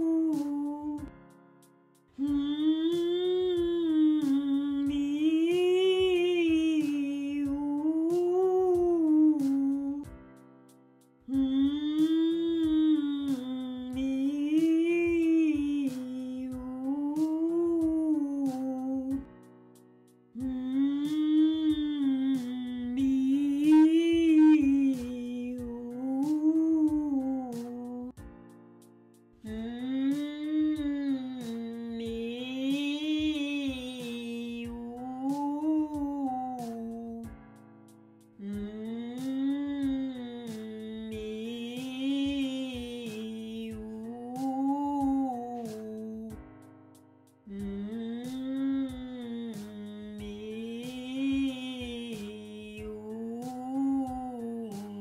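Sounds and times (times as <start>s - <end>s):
woman singing a vocal warm-up: 0.0s - 1.2s, 2.2s - 10.2s, 11.3s - 19.3s, 20.4s - 28.3s, 29.4s - 37.4s, 38.4s - 46.4s, 47.5s - 55.0s.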